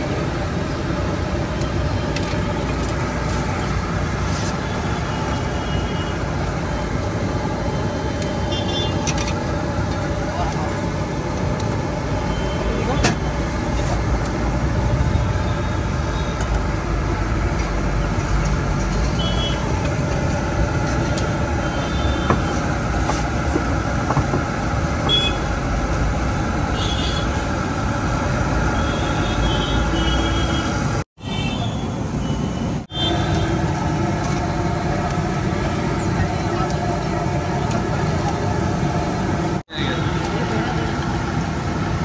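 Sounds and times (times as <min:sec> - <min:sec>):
street traffic: 0:00.0 - 0:42.0.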